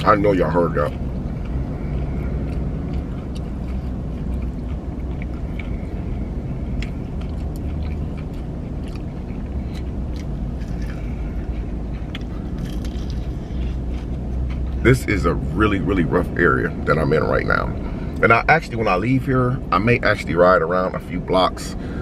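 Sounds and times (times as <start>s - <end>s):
chewing crunchy fried chicken: 0.0s - 19.1s
low vehicle rumble: 0.0s - 22.0s.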